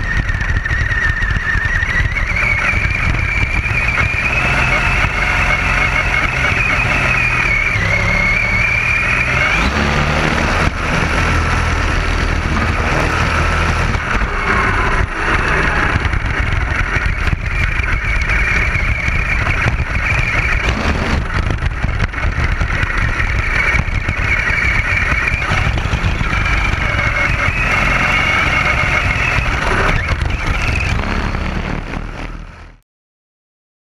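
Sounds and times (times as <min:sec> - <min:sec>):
low rumble of chassis on sand: 0:00.0 - 0:32.8
rc car motor whining: 0:00.0 - 0:32.8.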